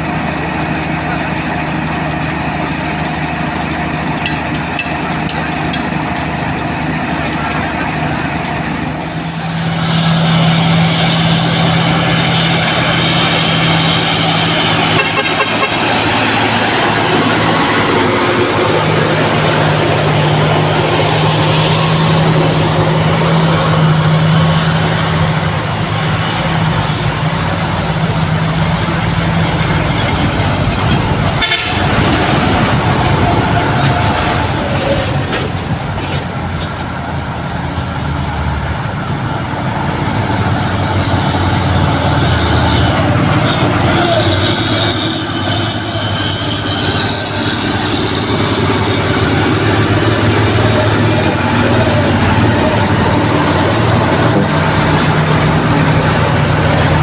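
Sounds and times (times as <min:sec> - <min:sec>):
heavy vehicle running: 0:00.0 - 0:57.0.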